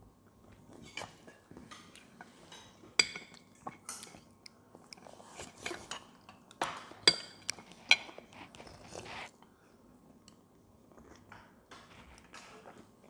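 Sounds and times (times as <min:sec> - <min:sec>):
soft chewing: 0:00.2 - 0:06.6, 0:07.3 - 0:13.0.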